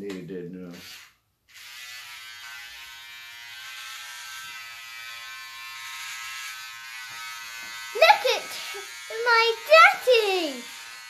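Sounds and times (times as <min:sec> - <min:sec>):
electric hair clippers buzzing: 0:00.7 - 0:11.0.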